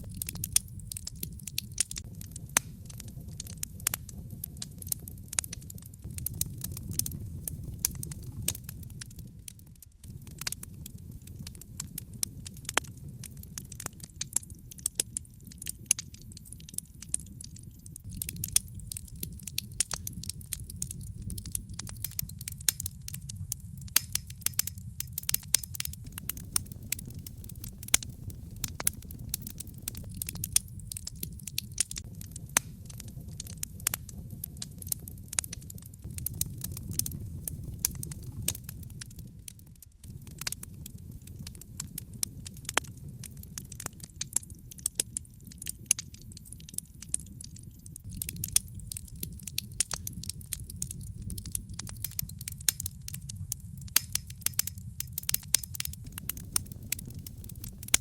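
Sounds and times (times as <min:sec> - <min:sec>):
logs crackling in fireplace: 0:00.0 - 0:58.0.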